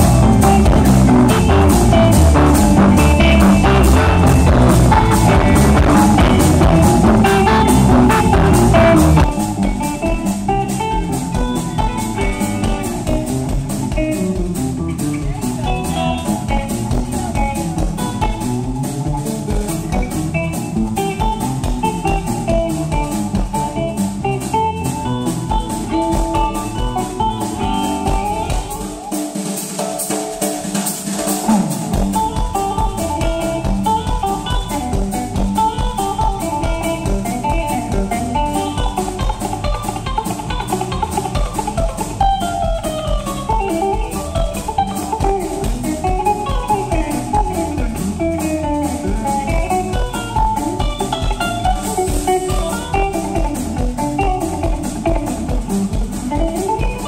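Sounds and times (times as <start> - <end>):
drums: 0.0 - 57.0
electric guitar fast picked notes: 0.0 - 57.0.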